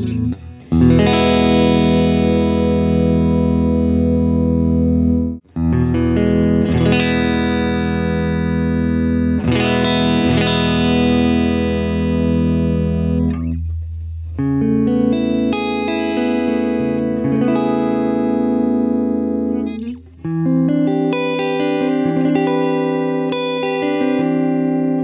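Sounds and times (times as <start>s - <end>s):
clean electric guitar chords: 0.0s - 25.0s.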